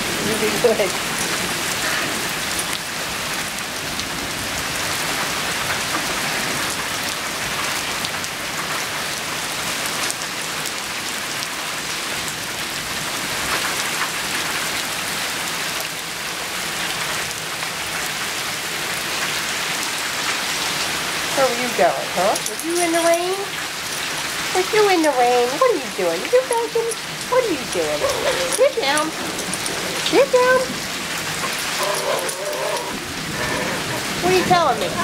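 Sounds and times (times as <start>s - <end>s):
rain falling on pavement: 0.0s - 35.0s.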